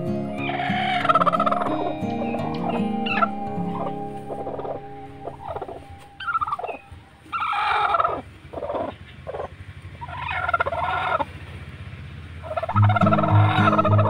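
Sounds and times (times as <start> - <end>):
hen clucking: 0.4 - 11.3, 12.4 - 14.0.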